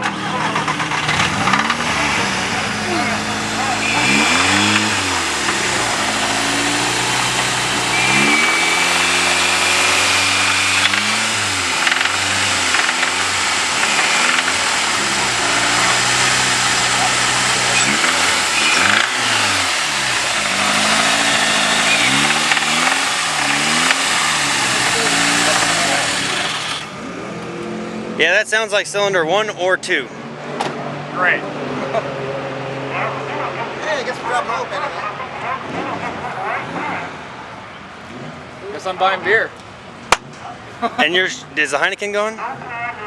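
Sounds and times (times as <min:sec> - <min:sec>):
car engine revving: 0:00.0 - 0:42.8.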